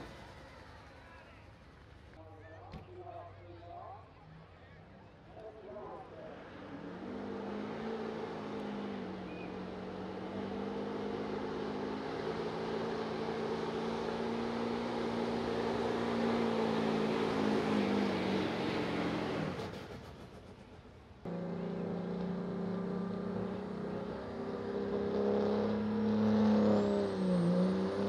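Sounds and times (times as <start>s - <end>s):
truck engine at high revs: 0.0s - 1.0s, 6.4s - 28.0s.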